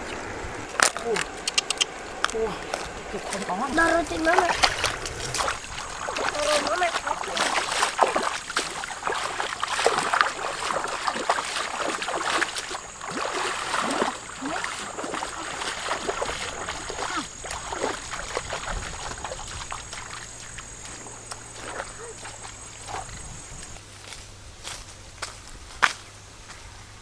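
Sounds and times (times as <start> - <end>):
feet splashing through water: 0.0 - 26.0.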